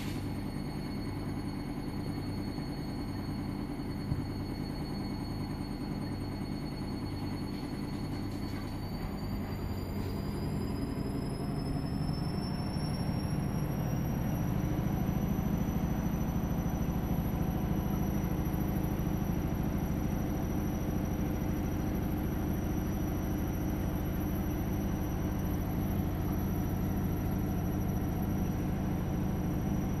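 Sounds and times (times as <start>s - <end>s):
aquarium pump humming: 0.0s - 30.0s.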